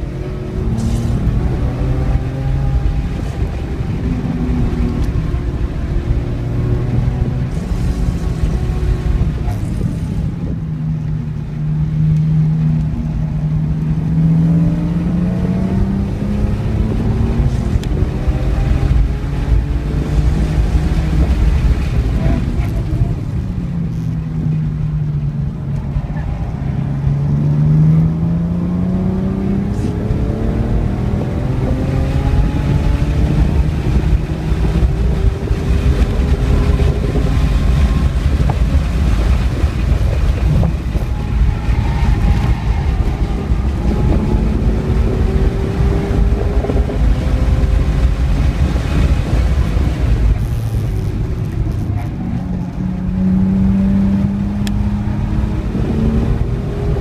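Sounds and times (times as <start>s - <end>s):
car engine accelerating: 0.0s - 57.0s
road and wind noise: 0.0s - 57.0s.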